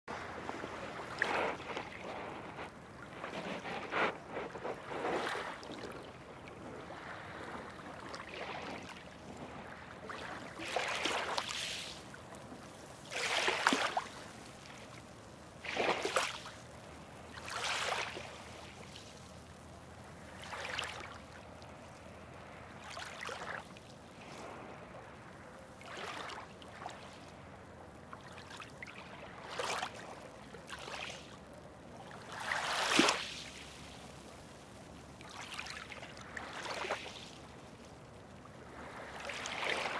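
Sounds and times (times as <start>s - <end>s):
faint water hiss: 0.1s - 39.9s
small waves lapping and splashing: 0.1s - 39.9s.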